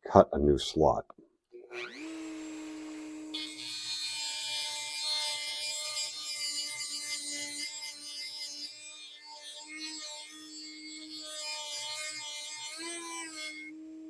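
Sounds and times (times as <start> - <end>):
rotary tool grinding metal: 1.7 - 13.9.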